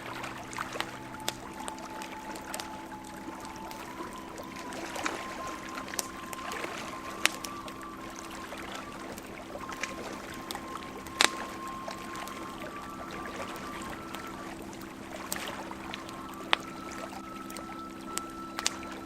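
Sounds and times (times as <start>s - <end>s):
bonfire crackling and popping: 0.0s - 19.0s
low steady hum: 0.0s - 19.0s
thin held tone: 0.0s - 19.0s.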